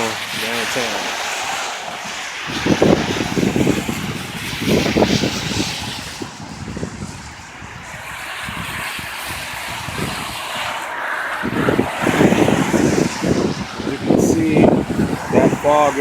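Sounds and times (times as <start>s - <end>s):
low irregular traffic rumbling: 0.0s - 16.0s
tyres hissing on wet road: 0.0s - 16.0s.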